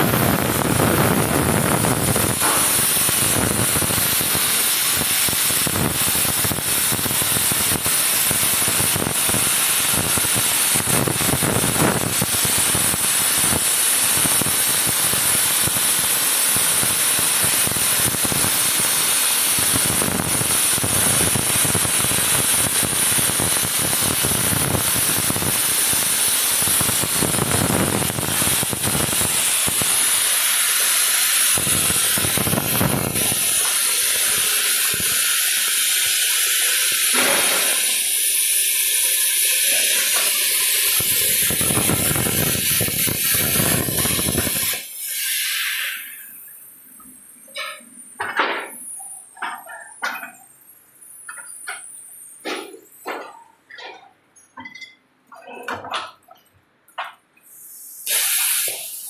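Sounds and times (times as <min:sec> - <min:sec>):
cnc cutting machine hissing: 0:00.0 - 0:46.6, 0:57.6 - 0:59.0.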